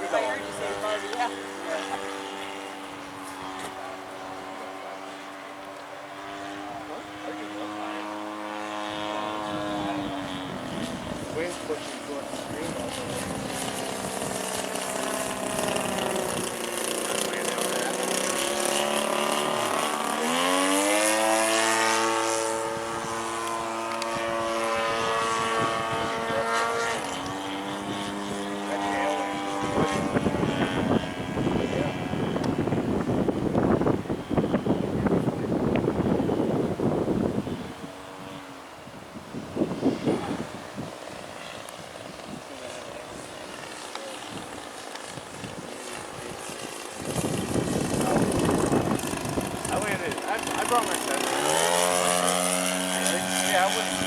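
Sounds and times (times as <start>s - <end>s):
model airplane motor and propeller: 0.0s - 54.0s
wind buffeting microphone: 6.4s - 54.0s.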